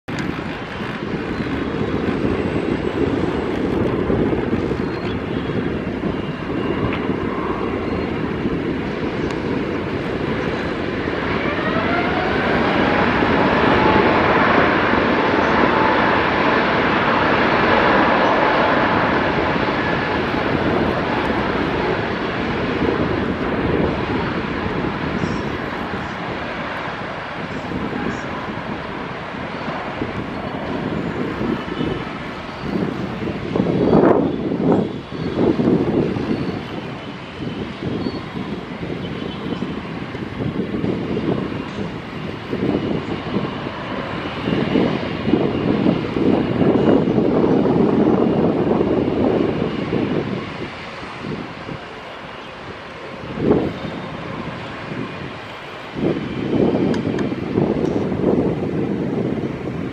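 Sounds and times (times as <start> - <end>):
jet engines running: 0.0 - 59.9
jet engine whine rising: 0.1 - 59.9.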